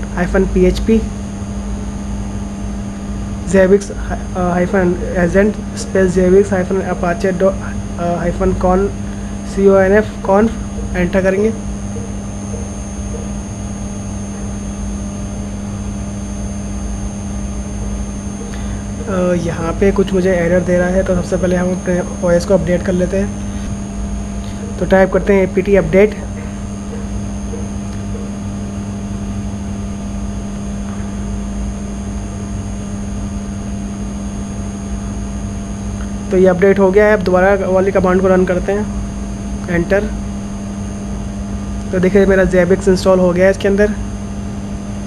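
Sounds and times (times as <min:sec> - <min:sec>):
constant low tone: 0:00.0 - 0:45.0
faint high whine: 0:00.0 - 0:45.0
steady electrical hum: 0:00.0 - 0:45.0.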